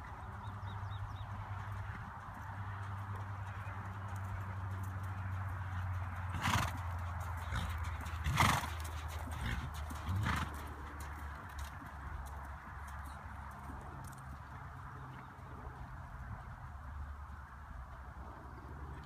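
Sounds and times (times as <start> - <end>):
horse walking on soft dirt: 0.0 - 19.0.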